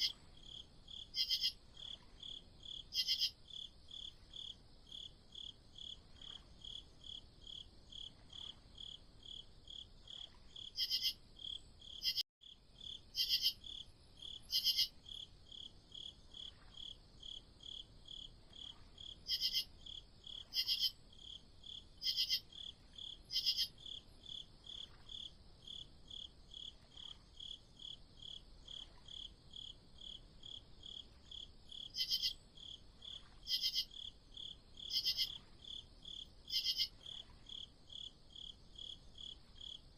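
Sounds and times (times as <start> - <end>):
crickets chirping: 0.0 - 39.9
louder high-pitched cricket chirping: 0.0 - 39.9.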